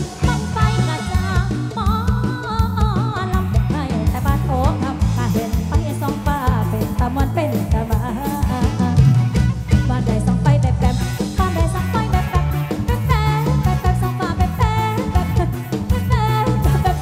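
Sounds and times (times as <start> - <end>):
bass and drum beat: 0.0 - 17.0.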